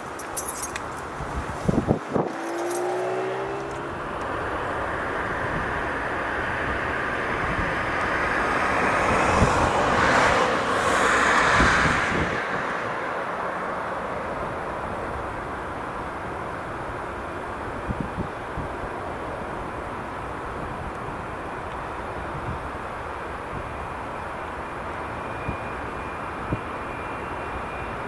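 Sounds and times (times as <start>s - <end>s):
jet engines roaring: 1.0s - 28.0s.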